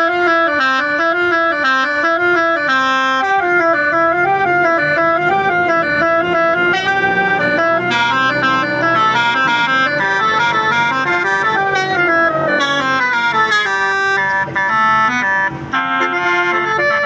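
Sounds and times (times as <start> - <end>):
bus musical horn melody: 0.0 - 17.0.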